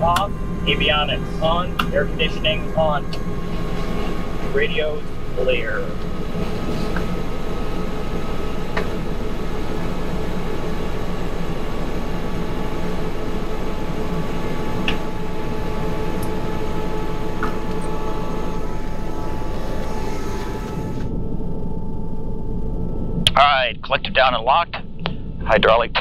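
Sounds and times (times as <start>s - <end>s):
helicopter engine rumble and whine: 0.0s - 26.0s.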